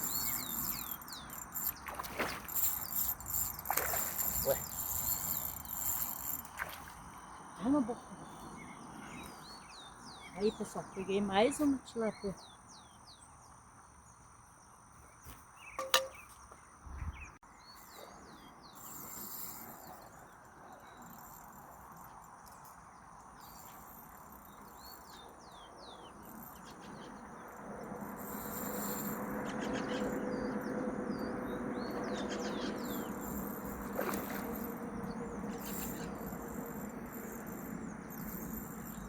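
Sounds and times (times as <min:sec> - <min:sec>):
high insect drone: 0:00.0 - 0:11.6, 0:17.9 - 0:39.0
birds chirping: 0:00.0 - 0:13.6, 0:15.2 - 0:39.0.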